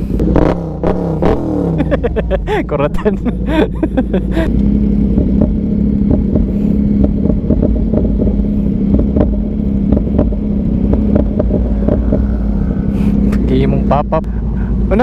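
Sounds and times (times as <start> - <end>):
low rumble: 0.0 - 15.0
motorcycle engine running: 0.0 - 15.0.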